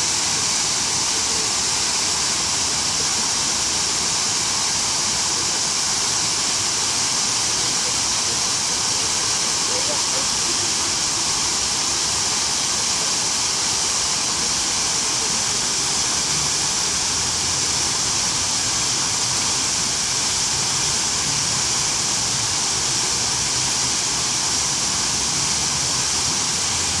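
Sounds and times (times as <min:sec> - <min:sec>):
fountain water splashing into basin: 0:00.0 - 0:27.0.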